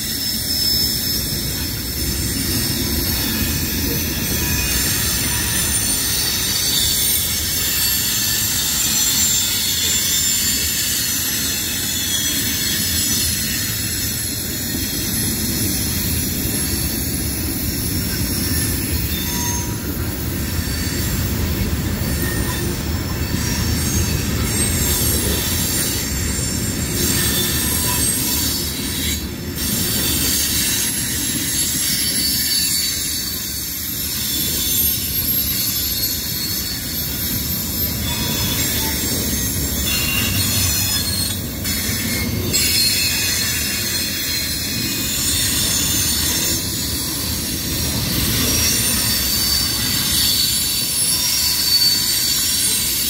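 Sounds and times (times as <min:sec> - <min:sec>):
low rumble of train wheels: 0:00.0 - 0:53.0
train wheels screeching on rails: 0:00.0 - 0:53.0.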